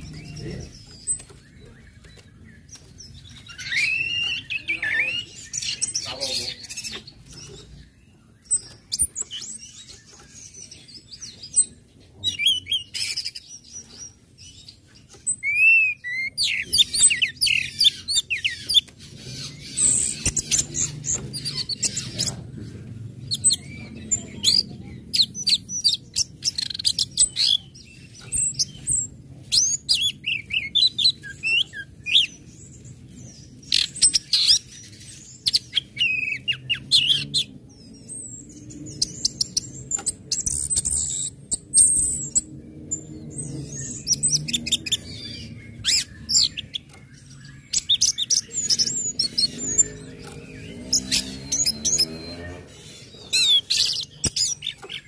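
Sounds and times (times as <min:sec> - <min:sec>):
thrush calling and singing: 0:00.0 - 0:55.0.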